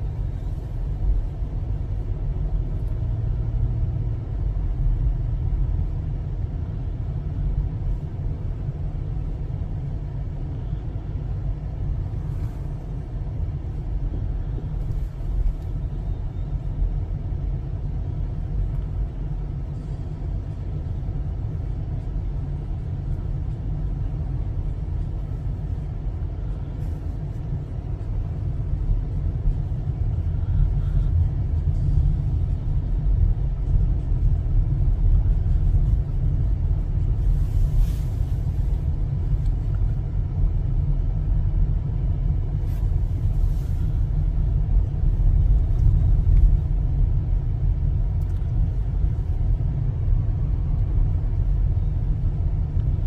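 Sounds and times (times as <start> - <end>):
car driving rumble from inside: 0.0 - 53.0.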